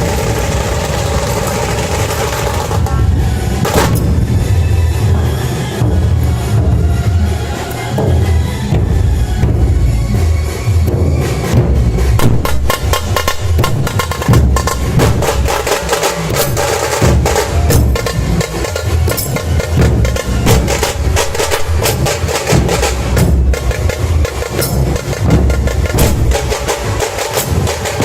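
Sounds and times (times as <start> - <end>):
deep drum beats: 0.0 - 28.0
rapid sharp drum strokes: 0.0 - 28.0.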